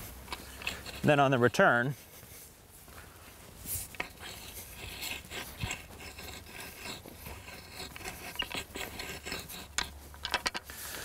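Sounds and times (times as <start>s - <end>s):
hoe scraping dry soil: 0.0s - 11.0s.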